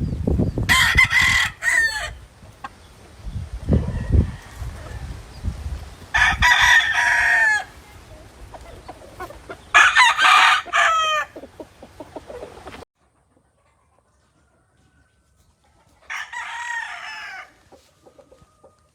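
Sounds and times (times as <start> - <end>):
roosters crowing: 0.6 - 12.8, 14.4 - 18.9.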